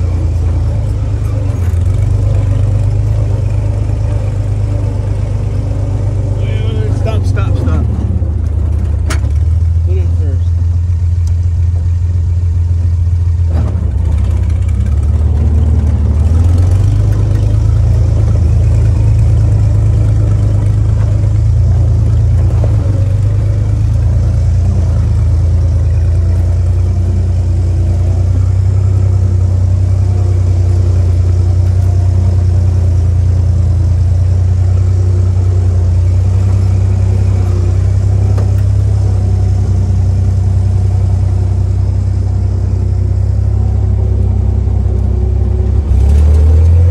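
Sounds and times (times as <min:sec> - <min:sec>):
jeep engine running under load: 0:00.0 - 0:46.9.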